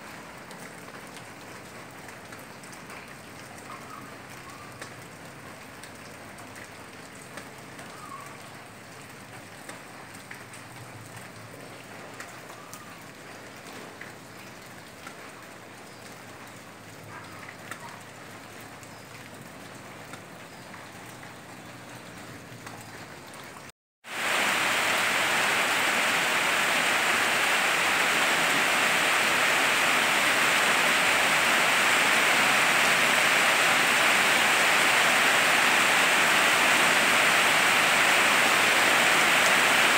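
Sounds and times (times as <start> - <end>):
heavy rain downpour: 0.0 - 39.9
light rain: 0.0 - 39.9.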